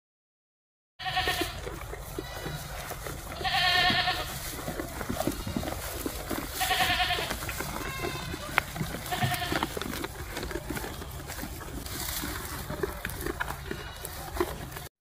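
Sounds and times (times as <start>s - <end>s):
goats bleating: 1.0s - 14.8s.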